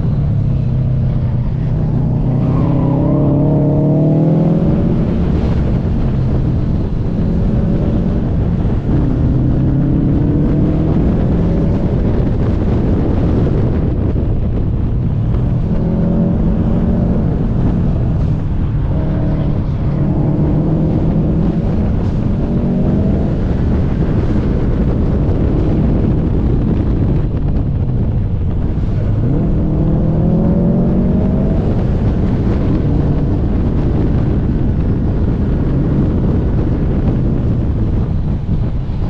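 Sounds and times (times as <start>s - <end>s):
car engine accelerating: 0.0s - 39.0s
road and wind rumble: 0.0s - 39.0s.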